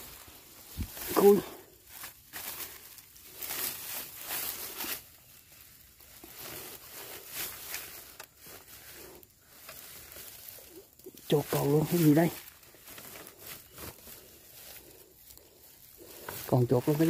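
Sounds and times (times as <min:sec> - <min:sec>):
rustling in dry grass: 0:00.0 - 0:17.0.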